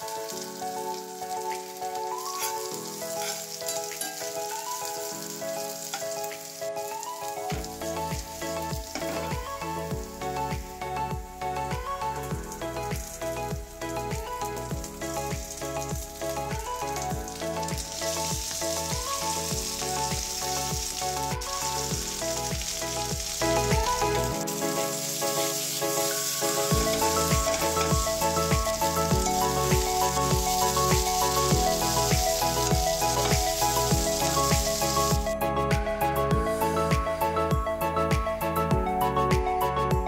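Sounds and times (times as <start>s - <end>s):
food sizzling in hot oil: 0.0s - 10.7s, 12.4s - 35.4s
background music with steady beat: 0.0s - 40.0s.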